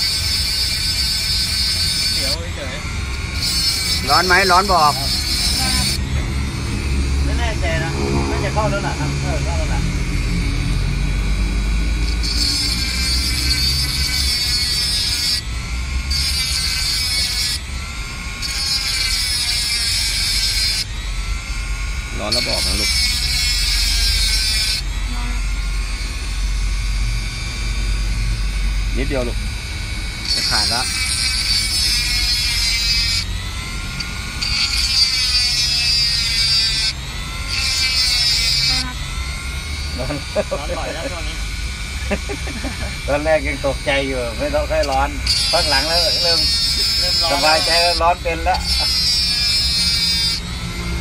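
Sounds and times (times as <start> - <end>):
cut-off disc grinding metal: 0.0 - 51.0
rotary tool motor whine: 0.0 - 51.0.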